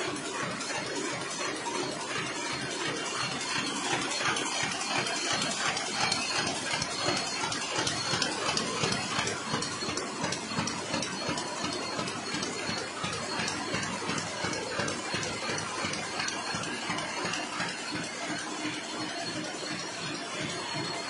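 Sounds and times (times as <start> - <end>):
rollers clicking: 2.3 - 21.0.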